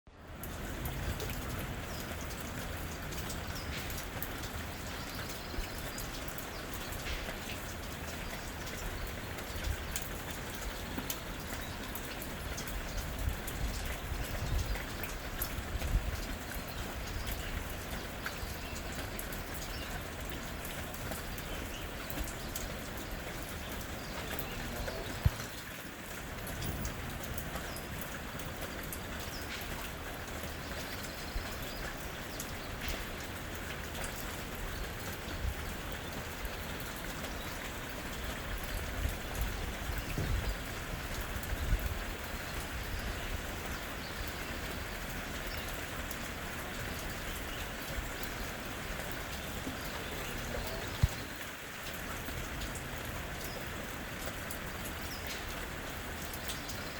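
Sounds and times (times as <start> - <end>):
rain pattering on leaves: 0.1 - 56.9.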